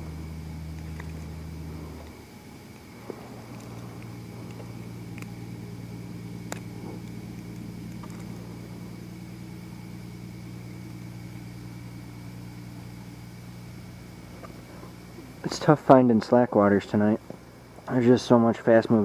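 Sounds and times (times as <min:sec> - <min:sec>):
faint high whine: 0:00.0 - 0:19.0
low mechanical hum: 0:00.0 - 0:19.0.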